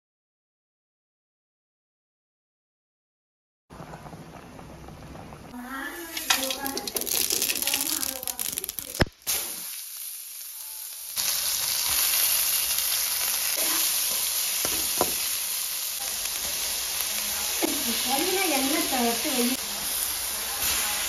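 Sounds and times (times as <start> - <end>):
onions sizzling in oil: 3.8 - 21.0.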